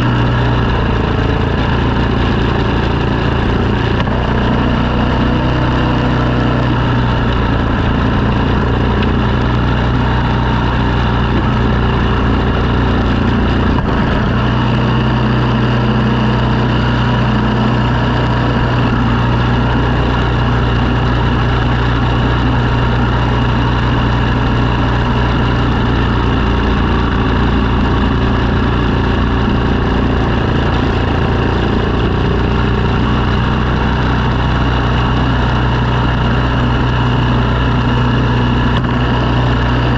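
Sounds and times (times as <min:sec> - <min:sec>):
snow-clearing machine engine running: 0:00.0 - 0:39.9.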